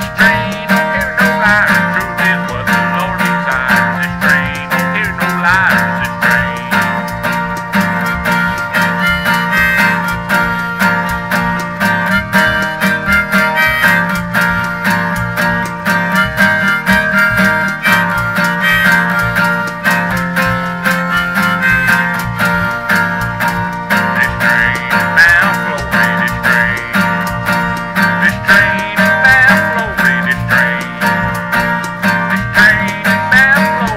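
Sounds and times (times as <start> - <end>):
acoustic guitar strumming: 0.0 - 33.9
harmonica melody: 0.0 - 33.9.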